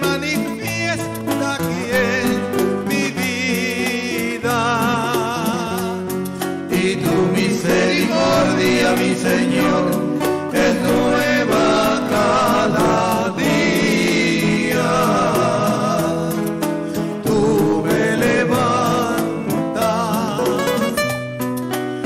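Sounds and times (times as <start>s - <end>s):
men singing in harmony: 0.0s - 21.0s
acoustic guitars strumming: 0.0s - 22.0s.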